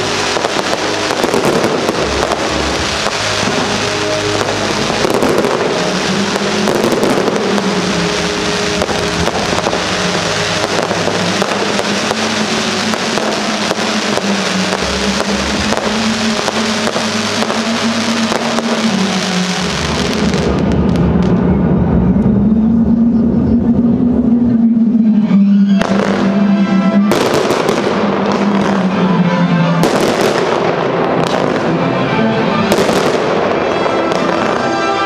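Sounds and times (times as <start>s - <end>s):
fireworks crackling and popping: 0.0s - 21.5s, 25.8s - 26.4s, 27.0s - 29.1s, 29.8s - 35.0s
steady low drone: 0.0s - 35.0s.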